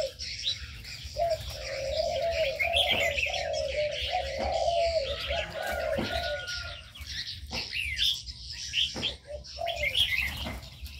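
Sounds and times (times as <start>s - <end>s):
doves cooing: 0.0s - 10.9s
small birds chirping: 0.0s - 10.9s.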